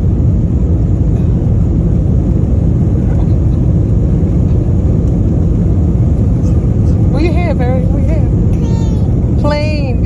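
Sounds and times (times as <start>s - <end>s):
airliner engines rumbling in cabin: 0.0s - 10.0s.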